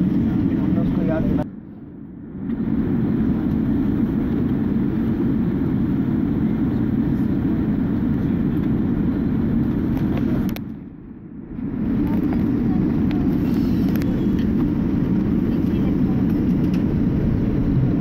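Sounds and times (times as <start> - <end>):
jet airliner taxiing rumble: 0.0 - 18.0.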